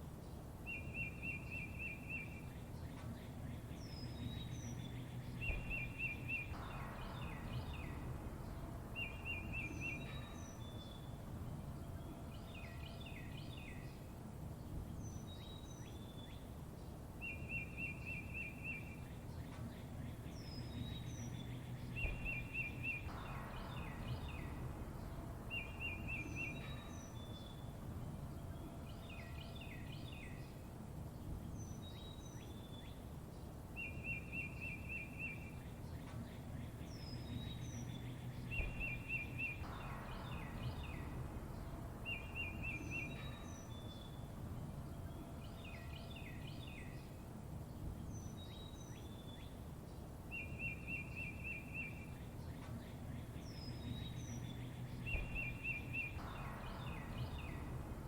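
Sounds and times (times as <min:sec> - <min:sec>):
songbirds chirping: 0:00.0 - 0:58.0
steady low rumble: 0:02.4 - 0:17.2, 0:19.0 - 0:34.1, 0:35.4 - 0:58.0.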